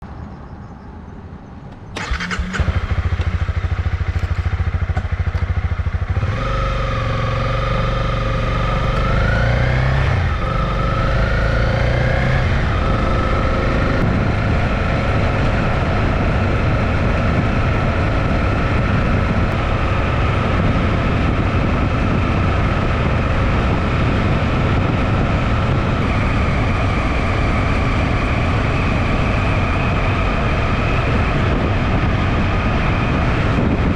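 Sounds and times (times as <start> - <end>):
motorcycle engine running: 2.0 - 33.9.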